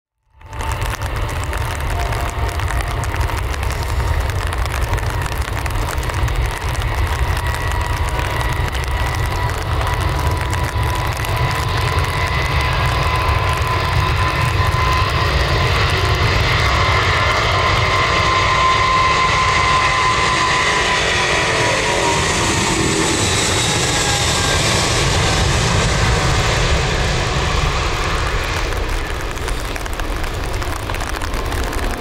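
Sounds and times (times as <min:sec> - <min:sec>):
jet engines at takeoff thrust: 0:00.1 - 0:32.0.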